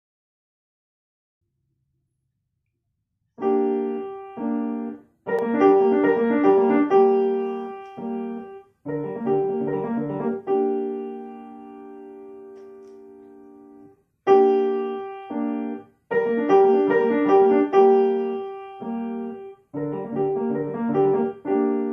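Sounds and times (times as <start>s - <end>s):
solo piano: 3.4s - 21.9s.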